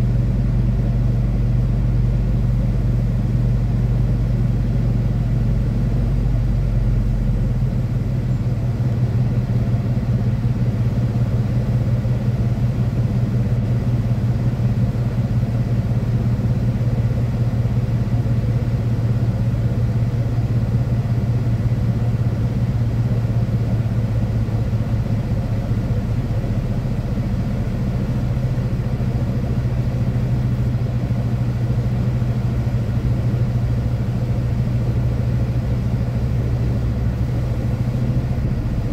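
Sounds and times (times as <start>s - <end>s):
truck diesel engine drone: 0.0s - 38.9s.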